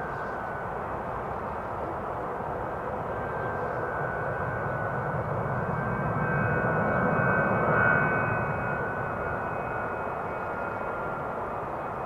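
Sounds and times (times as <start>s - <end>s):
jet engines rushing and whining: 0.0s - 12.0s.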